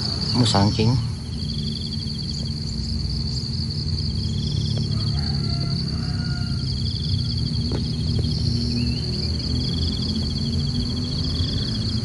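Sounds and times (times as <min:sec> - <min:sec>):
insects droning: 0:00.0 - 0:12.0
pulsing insect trill: 0:00.0 - 0:12.0.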